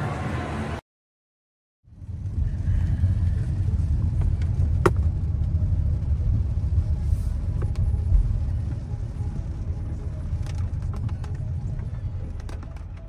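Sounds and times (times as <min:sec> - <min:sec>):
car engine and road rumble: 0:00.0 - 0:00.8, 0:01.9 - 0:13.0.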